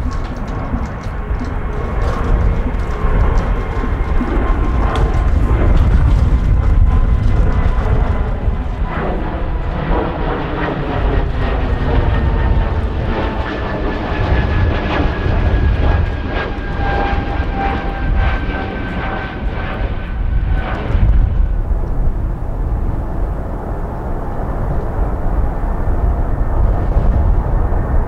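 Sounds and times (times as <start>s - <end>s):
jet engine turbine whine: 0.0s - 28.0s
wind rumble on microphone: 0.0s - 28.0s.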